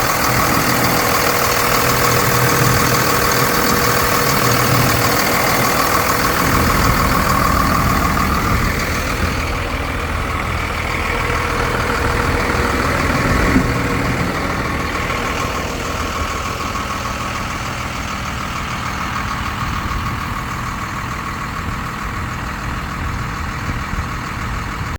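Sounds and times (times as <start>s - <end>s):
diesel truck engine running: 0.0s - 24.9s.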